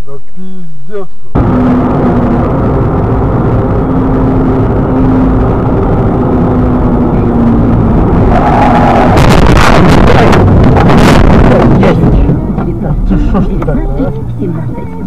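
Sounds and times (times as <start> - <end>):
car engine rumble: 0.0 - 15.0
road noise: 1.1 - 15.0.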